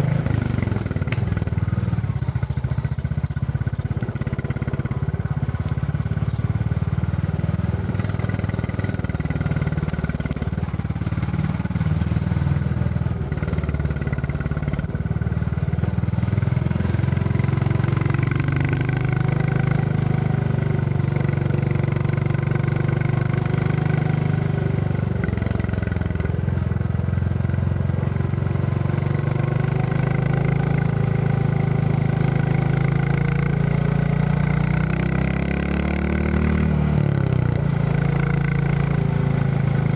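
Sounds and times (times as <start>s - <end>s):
single-cylinder motorcycle engine: 0.0s - 39.9s.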